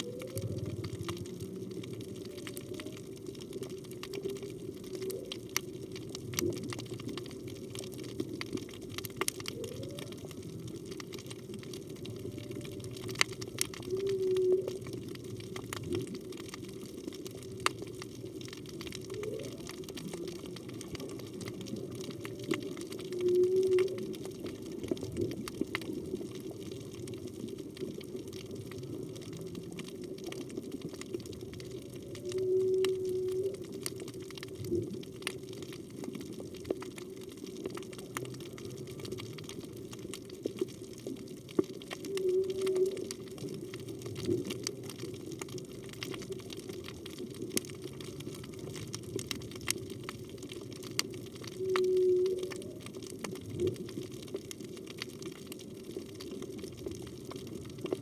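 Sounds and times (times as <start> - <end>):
underwater water noise: 0.0 - 58.0
whale song underwater: 0.0 - 58.0.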